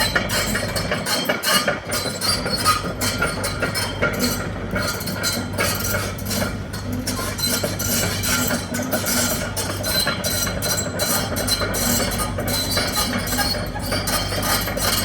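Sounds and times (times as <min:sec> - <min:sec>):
excavator diesel engine running: 0:00.0 - 0:04.8, 0:06.6 - 0:15.0.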